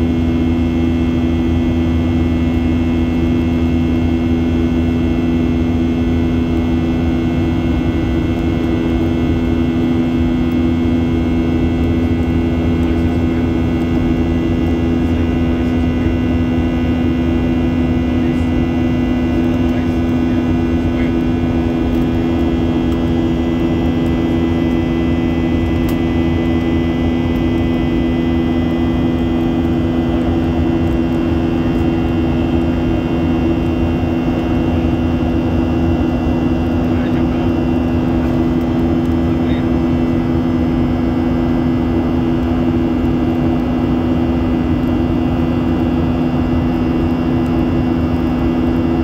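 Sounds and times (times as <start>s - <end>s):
jet engine cabin rumble: 0.0s - 49.0s.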